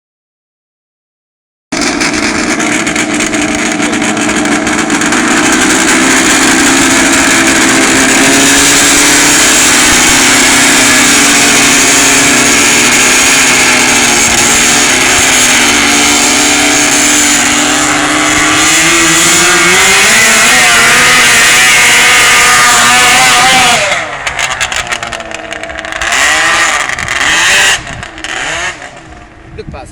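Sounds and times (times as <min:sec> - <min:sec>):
snowmobile engines revving: 0:01.8 - 0:29.4.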